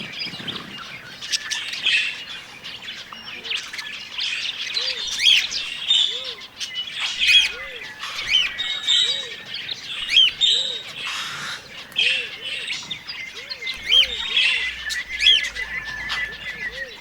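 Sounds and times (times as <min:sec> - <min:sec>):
budgerigars chirping and chattering: 0:00.2 - 0:17.0.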